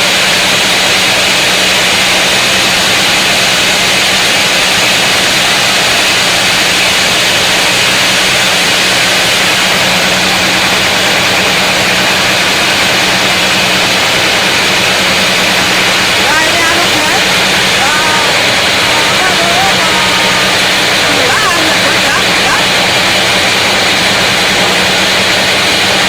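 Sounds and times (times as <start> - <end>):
power saw cutting log: 0.0 - 26.0.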